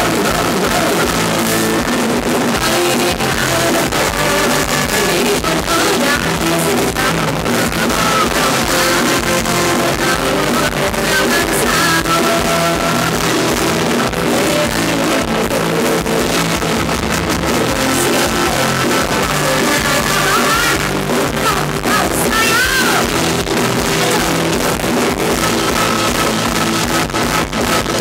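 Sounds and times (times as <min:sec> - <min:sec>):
man singing into microphone: 0:00.0 - 0:16.8, 0:17.4 - 0:26.7
live dance band music: 0:00.0 - 0:28.0.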